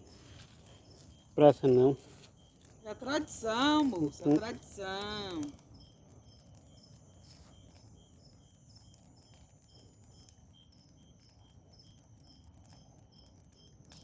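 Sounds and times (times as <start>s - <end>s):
bonfire crackling: 0.0s - 14.0s
insect chirping: 0.0s - 14.0s.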